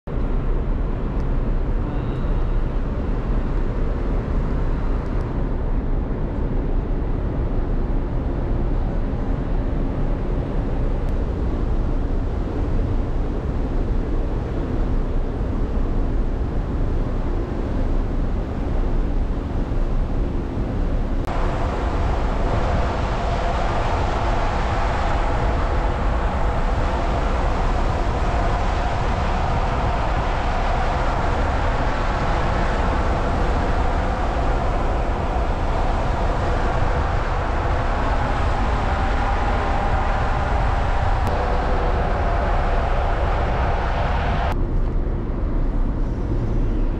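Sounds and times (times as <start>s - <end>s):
ferry engine low rumble: 0.1s - 46.9s
wind on microphone: 0.1s - 46.9s.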